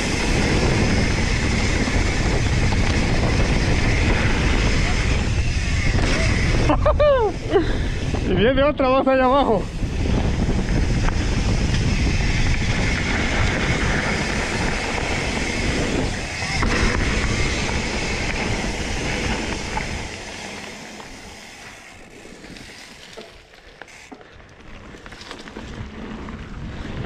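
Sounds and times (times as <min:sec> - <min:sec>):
wind rushing over microphone: 0:00.0 - 0:22.8, 0:25.0 - 0:27.0
tyres rolling on dirt trail: 0:00.0 - 0:27.0.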